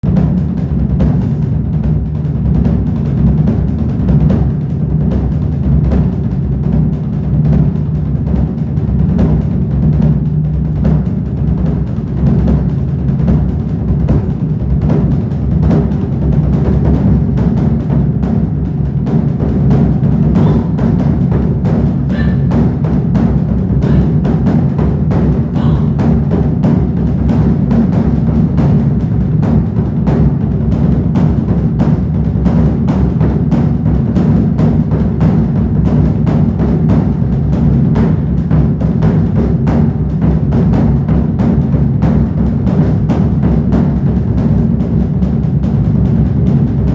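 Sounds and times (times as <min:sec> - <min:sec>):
large barrel drums beaten: 0:00.0 - 0:46.9.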